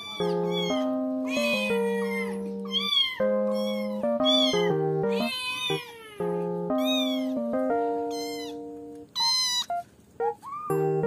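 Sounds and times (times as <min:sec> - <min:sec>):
kitten meowing: 0:00.0 - 0:09.8
keyboard chords music: 0:00.0 - 0:11.0.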